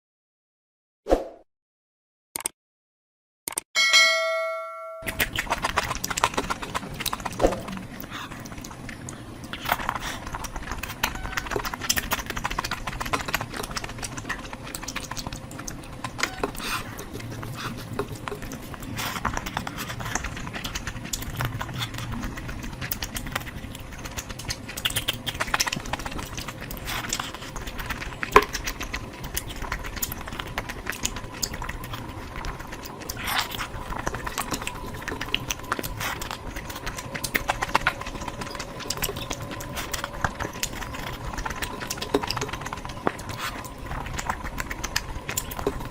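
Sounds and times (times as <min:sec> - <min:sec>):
person chewing food: 0:05.0 - 0:45.9.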